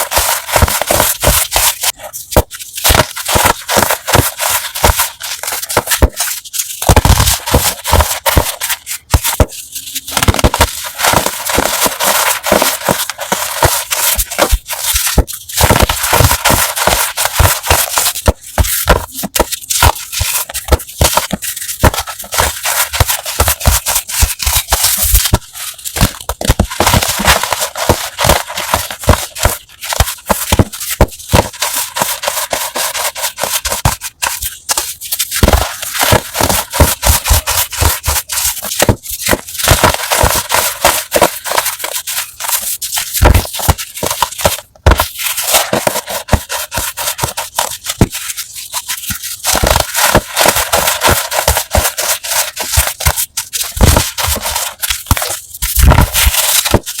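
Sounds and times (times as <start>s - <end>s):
chalk crunching: 0.0s - 57.0s.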